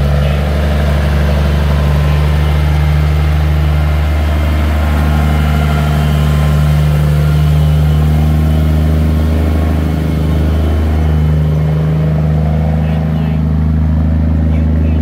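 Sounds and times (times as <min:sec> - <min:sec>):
truck diesel engine passing: 0:00.0 - 0:15.0.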